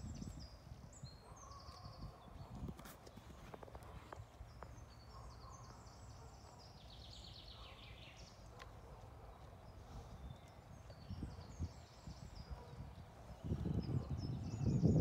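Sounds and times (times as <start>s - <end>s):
songbird trill: 0.0s - 15.0s.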